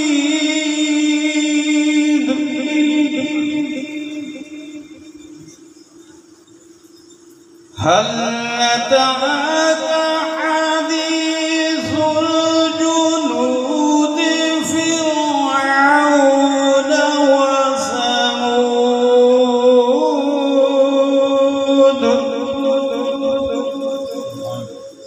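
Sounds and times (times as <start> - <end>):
man reciting melodically: 0.0 - 5.6, 7.8 - 25.0.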